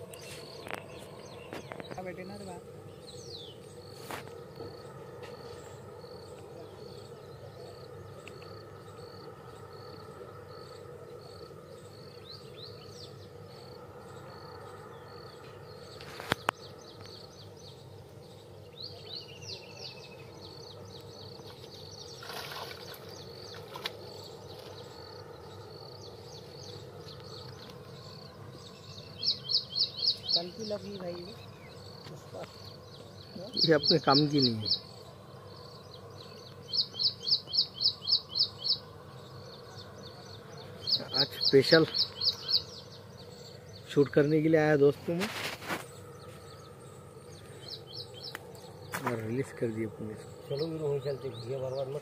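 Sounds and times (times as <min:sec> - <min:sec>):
birds chirping: 0:00.0 - 0:52.0
steady background hiss: 0:00.0 - 0:52.0.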